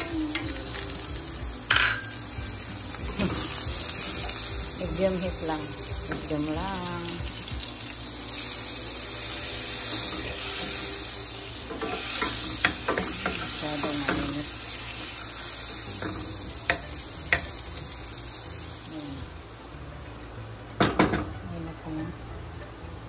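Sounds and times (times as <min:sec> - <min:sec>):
butter sizzling in a pan: 0:00.0 - 0:19.8.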